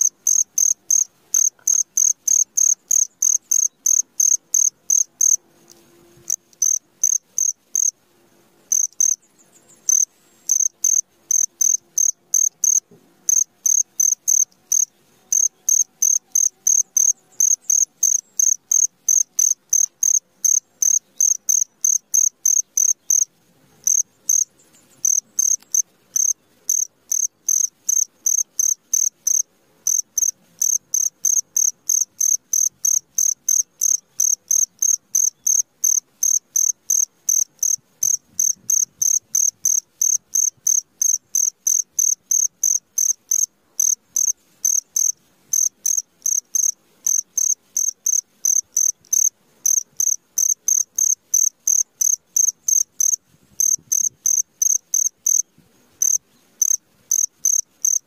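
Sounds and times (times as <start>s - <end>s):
cricket chirping: 0.0s - 5.4s, 6.3s - 8.0s, 8.7s - 58.0s.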